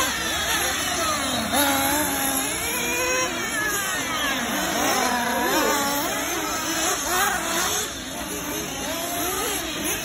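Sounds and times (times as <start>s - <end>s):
rc car motors revving: 0.0s - 10.0s.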